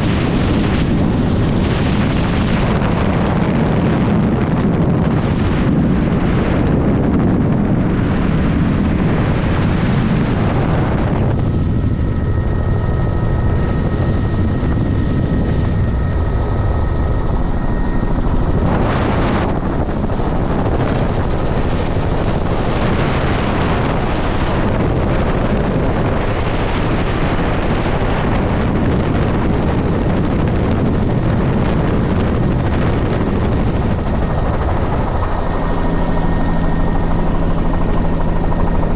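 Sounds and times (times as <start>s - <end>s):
faint steady whine: 0.0s - 38.9s
helicopter rotor and engine: 0.0s - 38.9s.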